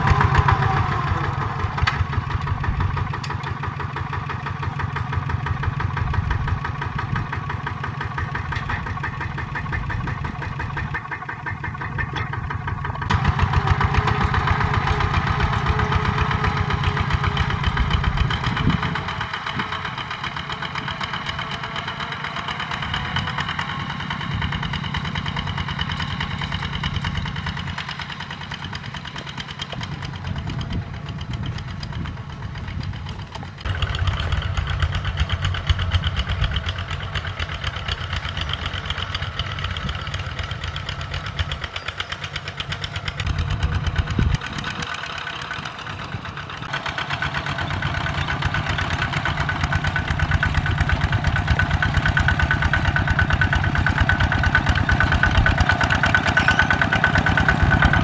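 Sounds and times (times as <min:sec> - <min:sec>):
diesel tractor engine chugging: 0:00.0 - 0:58.0.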